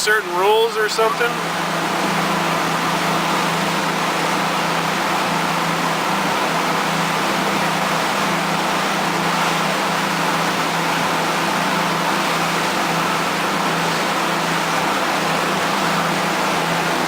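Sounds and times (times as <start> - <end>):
motorboat engine drone: 0.0 - 17.0.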